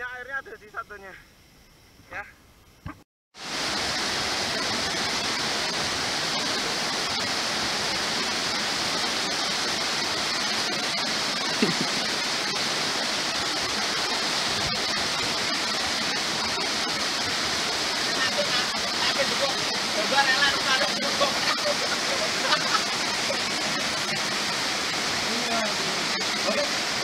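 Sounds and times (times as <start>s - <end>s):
waterfall rushing: 3.4s - 27.0s.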